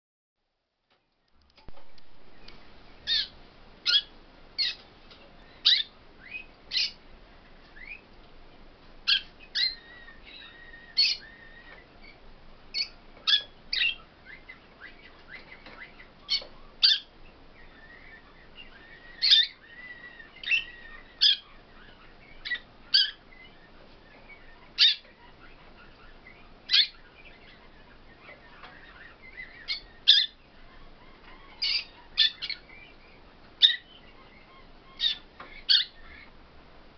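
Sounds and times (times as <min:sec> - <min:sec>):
songbirds chirping: 0:00.9 - 0:36.9.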